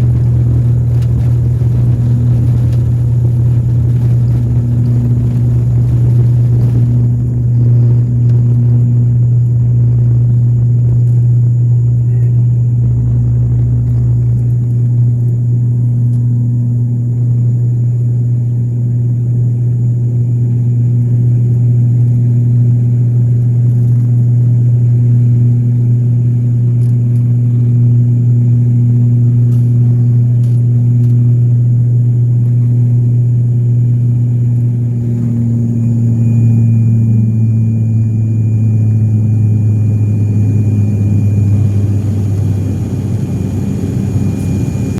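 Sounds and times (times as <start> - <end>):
aeroplane engines droning: 0.0 - 44.9
faint high whine: 0.0 - 44.9.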